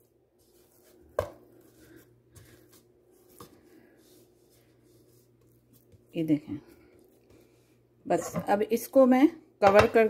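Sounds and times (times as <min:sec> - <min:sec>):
hand rubbing dough in bowl: 0:00.0 - 0:08.9.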